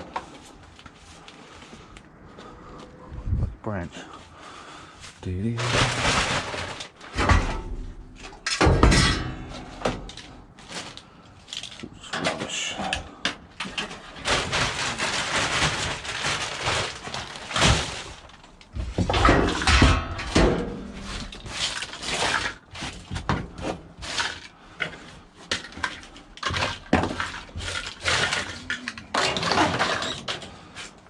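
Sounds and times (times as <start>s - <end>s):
rubbish being rummaged: 0.0s - 2.8s, 4.0s - 31.0s.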